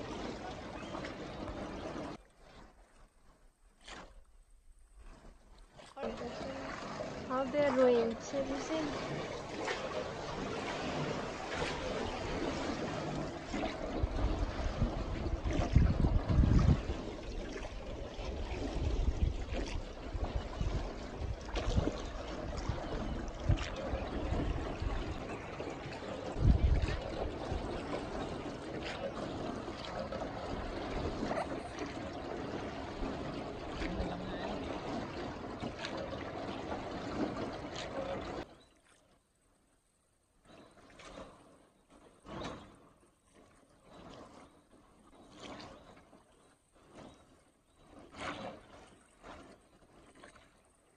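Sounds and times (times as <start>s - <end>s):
oar splashes: 0.0s - 50.9s
water lapping around a boat: 0.0s - 50.9s.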